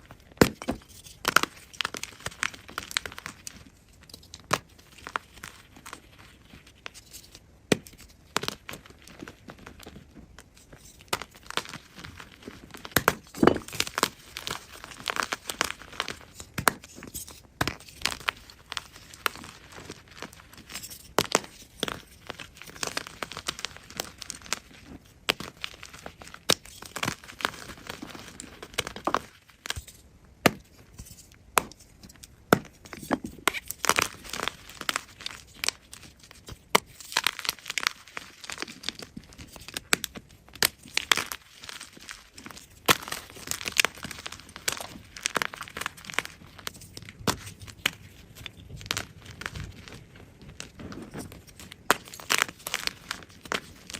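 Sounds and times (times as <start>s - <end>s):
chalk crunching and crackling: 0.0s - 53.9s.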